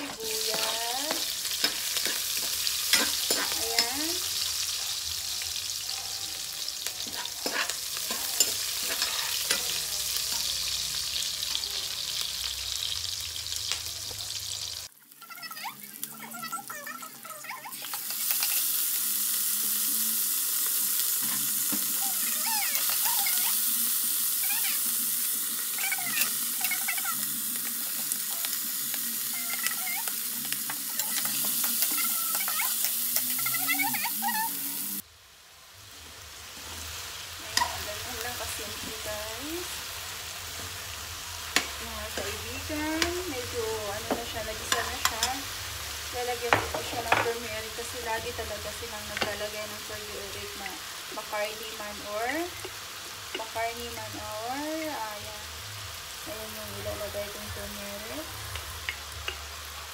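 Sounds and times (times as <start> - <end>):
food sizzling in wok: 0.0 - 59.9.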